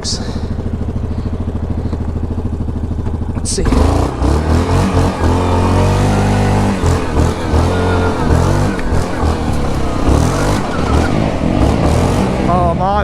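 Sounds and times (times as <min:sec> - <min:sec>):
another quad engine revving: 0:00.0 - 0:13.0
quad bike engine running: 0:00.0 - 0:13.0.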